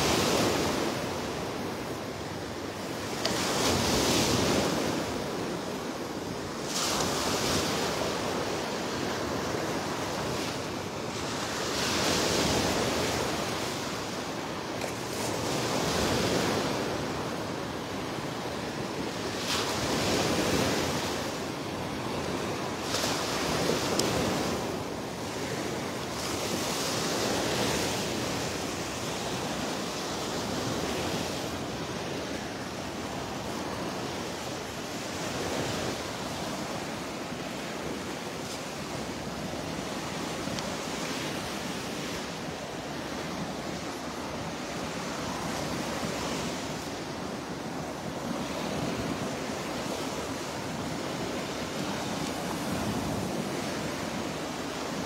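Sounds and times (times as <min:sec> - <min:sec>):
surf washing up sand: 0:00.0 - 0:55.0.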